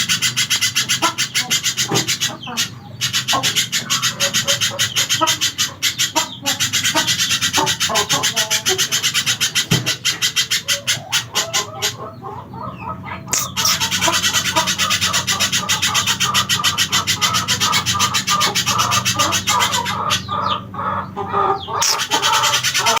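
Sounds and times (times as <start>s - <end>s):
bird calling sharp chips: 0.0s - 12.0s, 13.2s - 20.7s, 21.6s - 23.0s.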